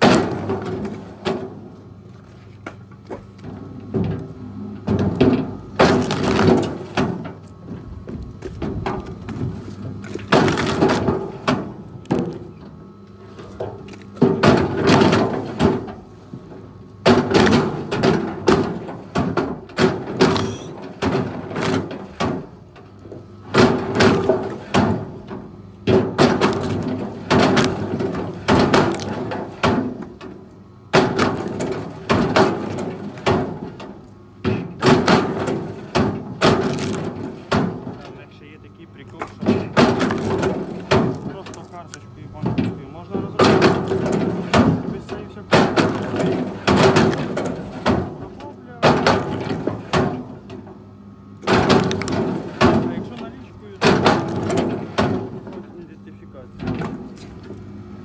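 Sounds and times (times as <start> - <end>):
wood cracking and splintering: 4.9 - 12.6, 13.3 - 50.8, 51.4 - 57.6.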